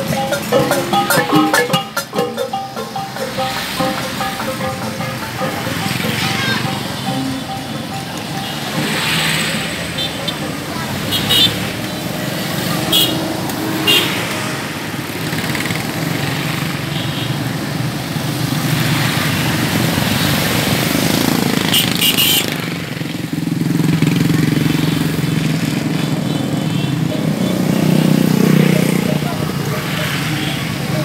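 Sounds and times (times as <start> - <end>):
motorcycles riding past: 0.0 - 16.9, 17.6 - 31.0.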